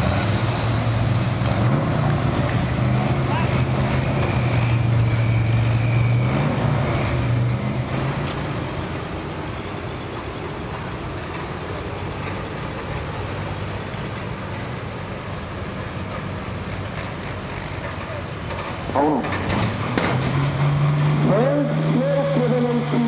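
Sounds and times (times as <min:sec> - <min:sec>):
tractor engine running loud: 0:00.0 - 0:23.0
tractor engines idling: 0:00.0 - 0:23.0.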